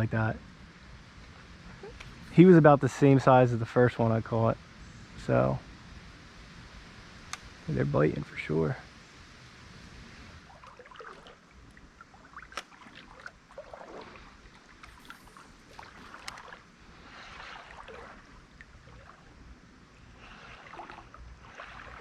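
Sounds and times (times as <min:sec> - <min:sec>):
creek water splashing: 0:00.8 - 0:22.0.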